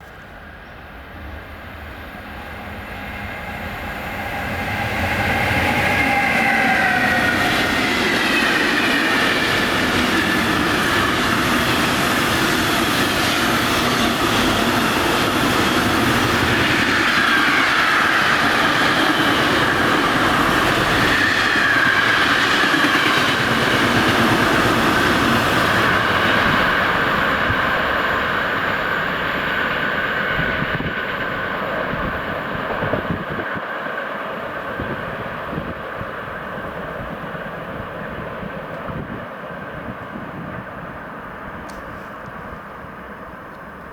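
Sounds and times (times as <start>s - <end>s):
electric locomotive whine: 0.0s - 43.9s.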